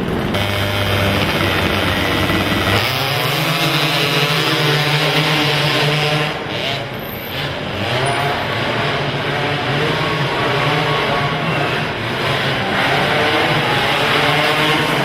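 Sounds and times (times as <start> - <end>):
quad engines running hard: 0.0 - 15.0.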